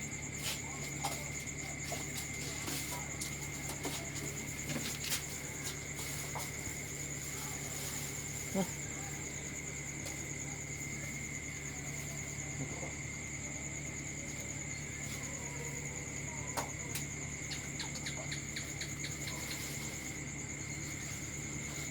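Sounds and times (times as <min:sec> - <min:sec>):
crickets trilling: 0:00.0 - 0:21.9.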